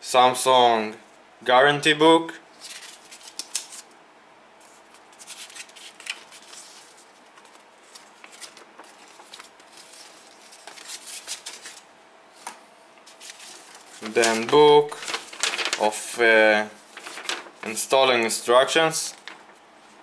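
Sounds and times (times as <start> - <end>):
paper packaging rustling: 2.6 - 3.9, 4.6 - 20.0.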